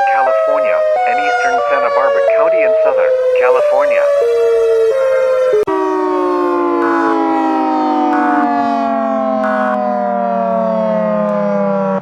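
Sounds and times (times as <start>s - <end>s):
siren winding down: 0.0s - 12.0s.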